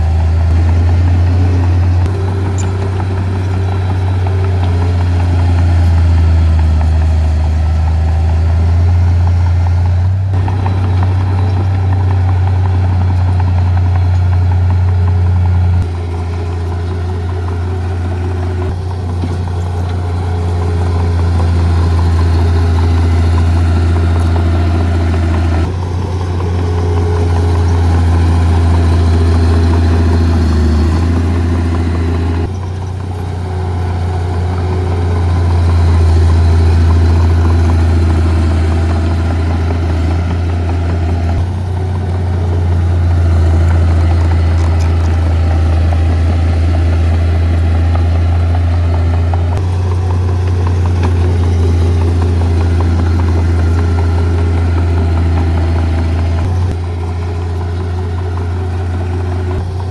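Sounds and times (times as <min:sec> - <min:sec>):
heavy diesel engines humming: 0:00.0 - 0:59.9.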